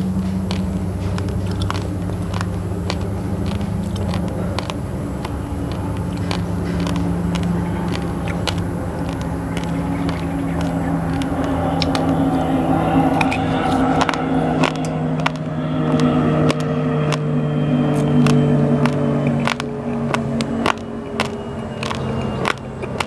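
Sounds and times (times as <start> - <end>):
low engine hum: 0.0 - 23.0
rice crunched between teeth: 0.0 - 23.0.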